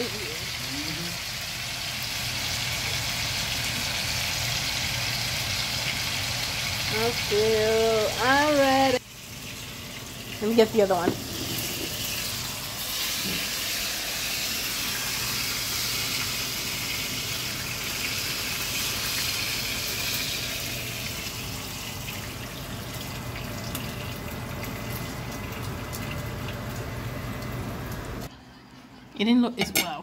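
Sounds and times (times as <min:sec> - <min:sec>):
steak sizzling in frying pan: 0:00.0 - 0:28.2.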